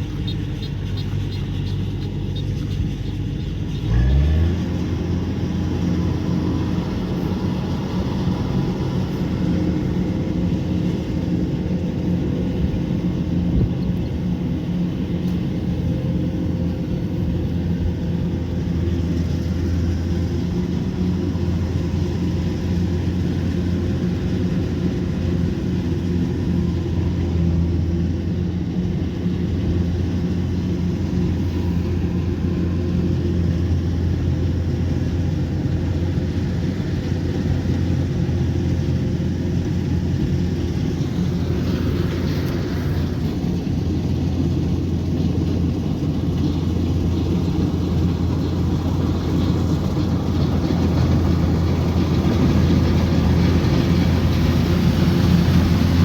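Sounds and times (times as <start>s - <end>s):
combine harvester engine running: 0.0s - 56.0s.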